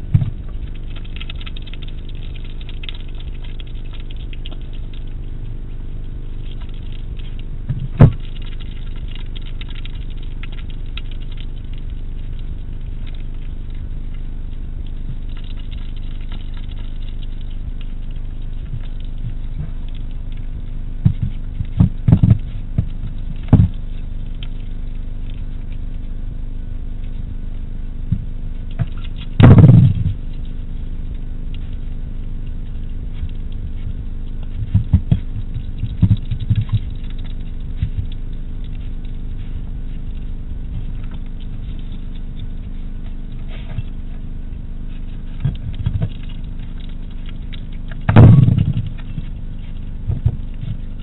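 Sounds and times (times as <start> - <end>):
electrical hum: 0.0 - 51.0
hedgehog eating from a dish: 0.0 - 51.0.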